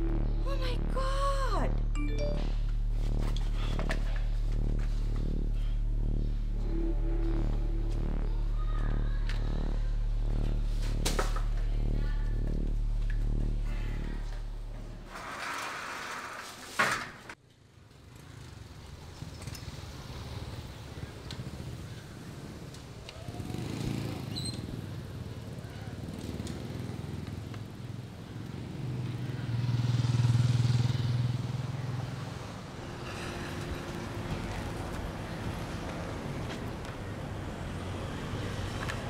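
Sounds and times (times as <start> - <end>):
motorcycle engine running: 2.5 - 15.1, 17.9 - 39.0.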